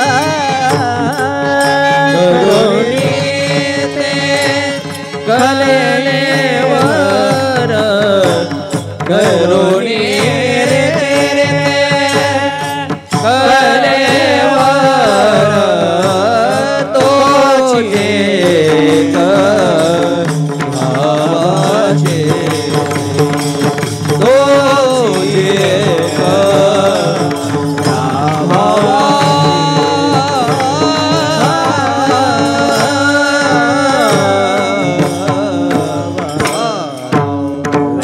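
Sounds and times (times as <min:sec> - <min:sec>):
person singing devotional song: 0:00.0 - 0:38.0
ringing hand cymbals: 0:00.0 - 0:38.0.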